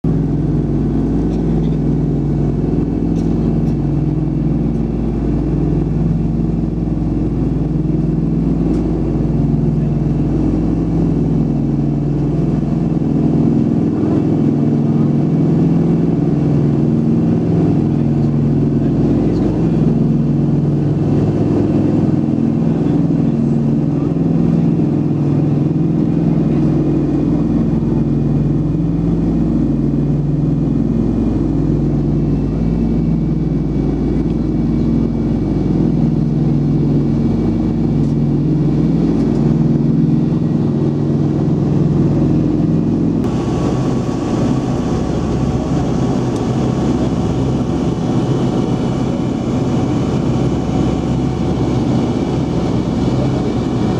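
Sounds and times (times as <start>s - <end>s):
propeller aircraft droning: 0.0s - 53.9s.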